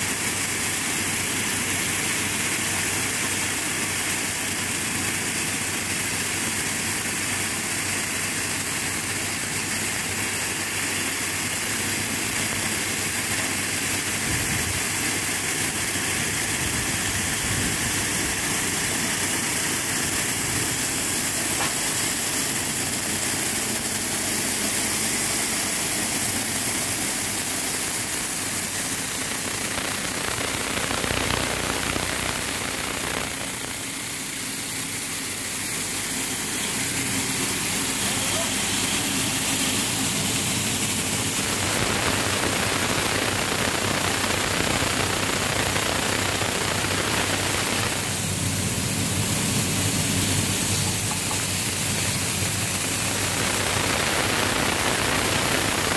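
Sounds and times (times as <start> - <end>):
grain cleaning machine running: 0.0 - 55.9.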